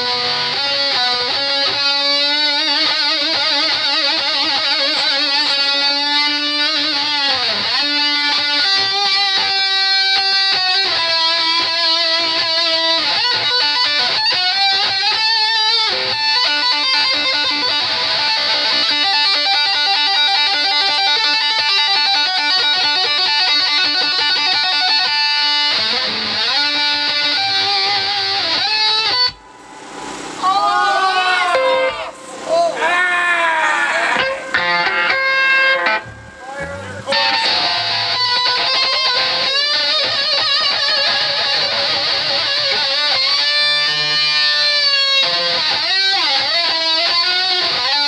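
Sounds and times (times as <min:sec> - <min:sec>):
live rock band playing: 0:00.0 - 0:33.0, 0:33.7 - 0:48.0
electric guitar bending notes: 0:00.0 - 0:48.0.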